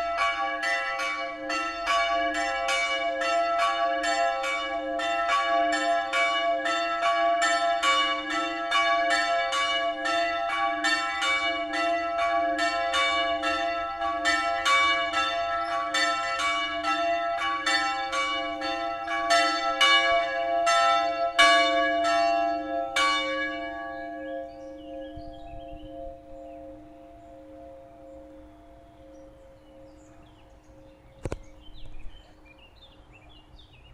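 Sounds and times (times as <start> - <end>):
church bells ringing: 0.0 - 32.7.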